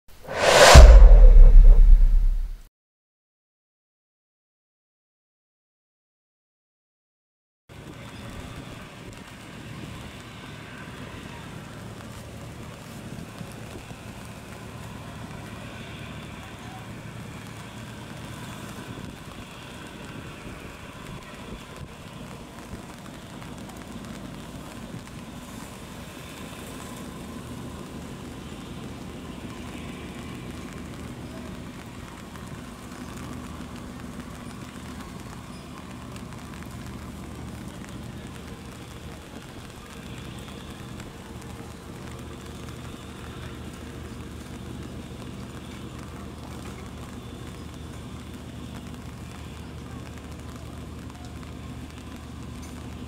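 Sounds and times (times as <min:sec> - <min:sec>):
wind: 0:00.1 - 0:02.6, 0:07.7 - 0:53.0
rain: 0:07.7 - 0:53.0
ferry engines rumbling: 0:07.9 - 0:53.0.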